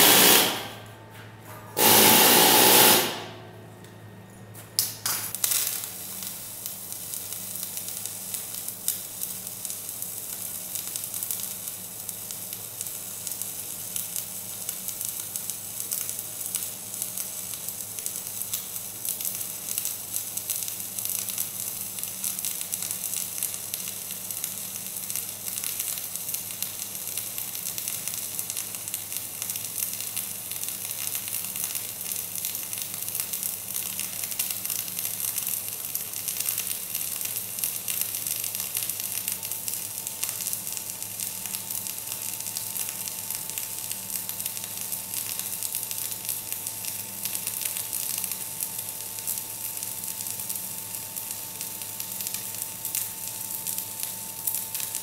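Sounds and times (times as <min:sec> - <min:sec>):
welding arc crackling sizzle: 0:00.0 - 0:01.0, 0:01.8 - 0:03.5, 0:04.8 - 0:55.0.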